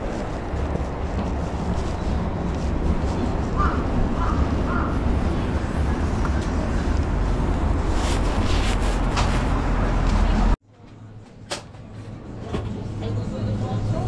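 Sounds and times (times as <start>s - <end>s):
street background rumble: 0.0s - 14.0s.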